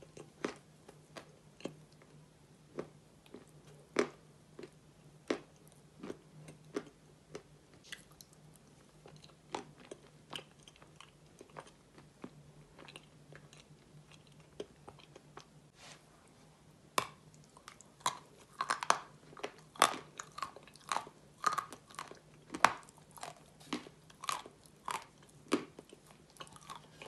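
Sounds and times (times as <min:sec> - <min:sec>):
person chewing and crunching: 0:00.0 - 0:15.6, 0:17.0 - 0:27.0
faint steady hum: 0:00.0 - 0:27.0.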